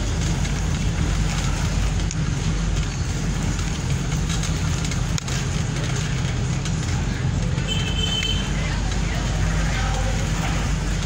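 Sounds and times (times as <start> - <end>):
vehicle rumble: 0.0 - 11.0.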